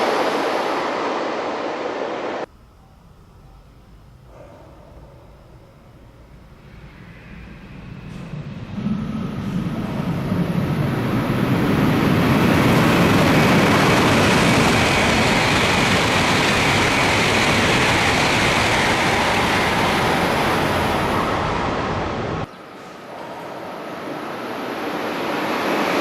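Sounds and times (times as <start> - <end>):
high-speed train passing: 0.0 - 2.5, 6.6 - 26.0.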